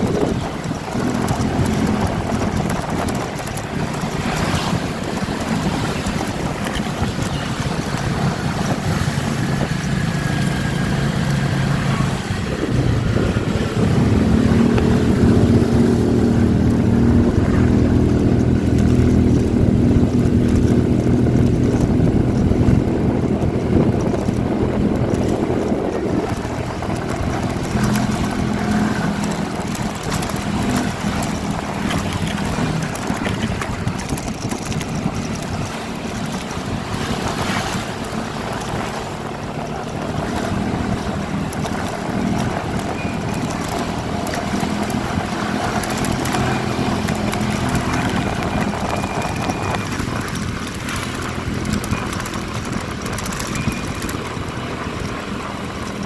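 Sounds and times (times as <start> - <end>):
motorcycle engine running: 0.0 - 56.0
wind buffeting microphone: 0.0 - 56.0.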